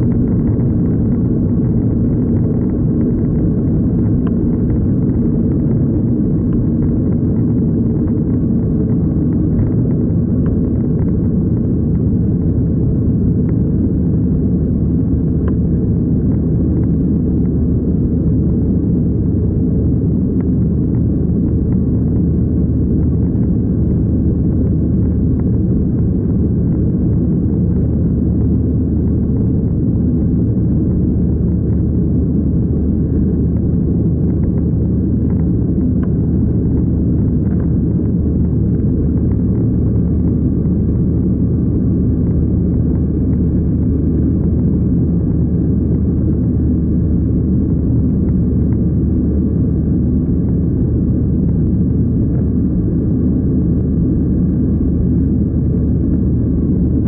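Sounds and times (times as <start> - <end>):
jet engine noise in cabin: 0.0 - 57.0.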